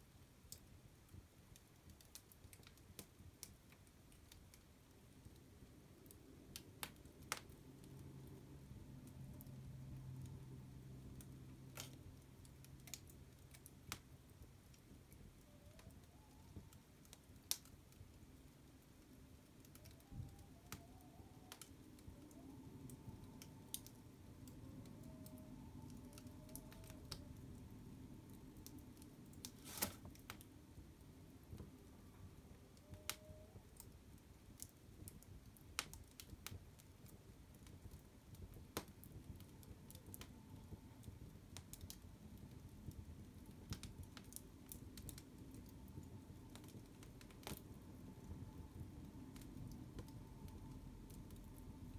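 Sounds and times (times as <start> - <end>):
fire crackling: 0.0 - 51.9
low rumble of flames: 0.0 - 51.9.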